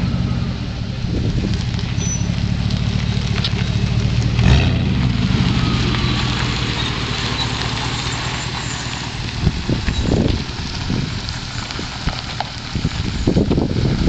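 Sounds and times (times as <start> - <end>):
loud exhaust of truck engine: 0.0 - 14.0.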